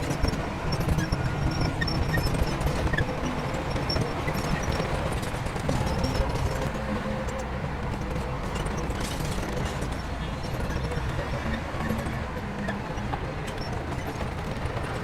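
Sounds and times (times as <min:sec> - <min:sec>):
diesel machinery engine rumble: 0:00.0 - 0:15.0.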